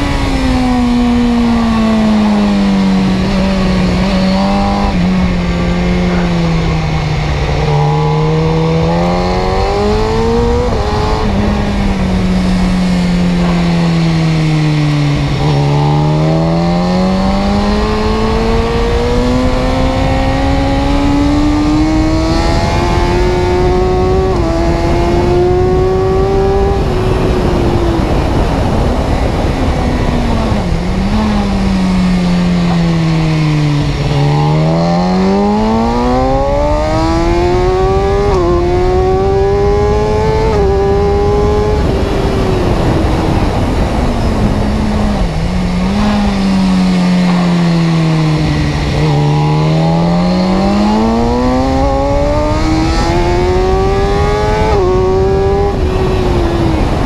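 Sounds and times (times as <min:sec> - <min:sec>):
vehicle engine revving through gears: 0:00.0 - 0:57.0.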